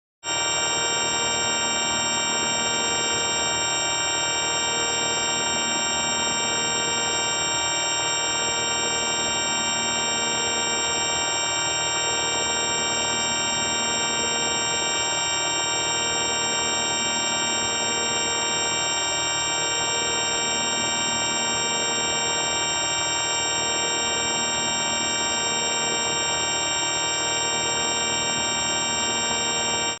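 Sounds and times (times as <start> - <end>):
electronic buzzing tone: 0.3 - 30.0.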